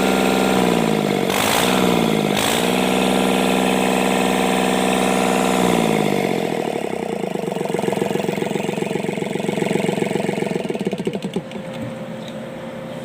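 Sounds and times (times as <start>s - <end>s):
diesel tractor engine shutting off: 0.0s - 13.0s.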